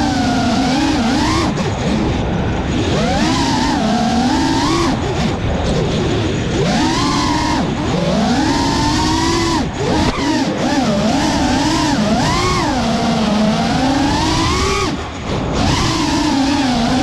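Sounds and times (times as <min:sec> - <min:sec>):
drone motors whining: 0:00.0 - 0:17.0
rush of air: 0:00.0 - 0:17.0.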